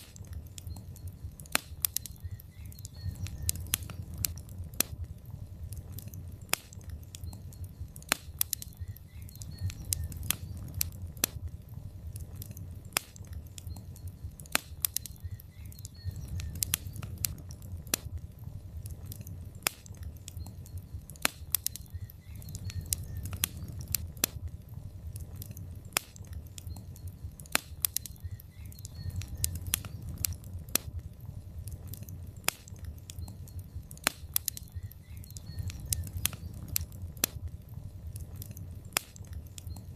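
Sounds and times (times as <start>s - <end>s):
fire flame rumble: 0.0s - 39.9s
wood fire crackling and popping: 0.0s - 39.9s.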